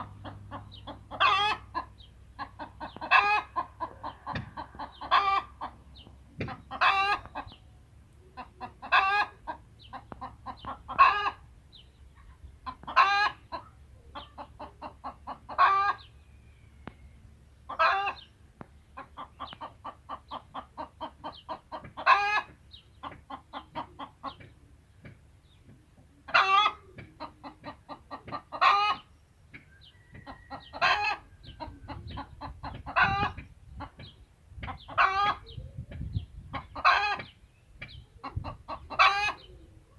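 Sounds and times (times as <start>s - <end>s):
hens clucking and cackling: 0.0s - 39.9s.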